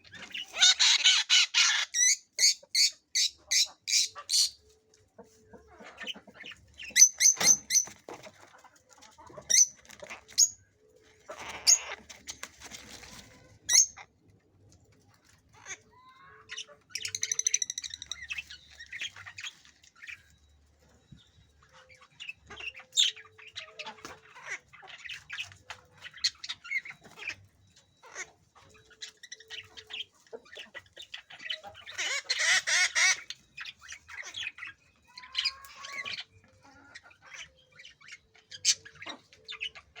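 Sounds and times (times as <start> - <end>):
parrots squawking and chattering: 0.0 - 4.7, 5.5 - 14.2, 15.2 - 20.3, 21.0 - 40.0.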